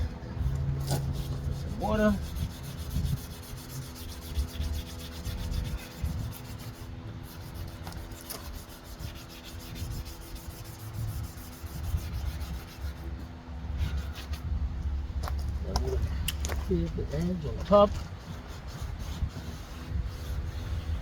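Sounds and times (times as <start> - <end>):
sandpaper scraping plastic: 0.4 - 14.5, 16.5 - 21.0.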